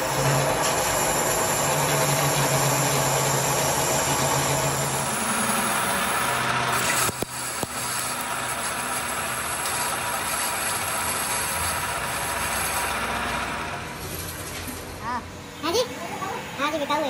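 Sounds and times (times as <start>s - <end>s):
lathe cutting tool hiss: 0.0s - 13.7s
lathe machine hum: 0.0s - 15.5s.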